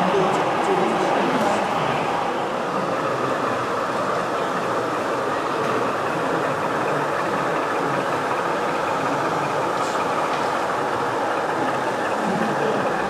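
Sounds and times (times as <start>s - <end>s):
model train wheels rumbling on rail: 0.0s - 13.0s.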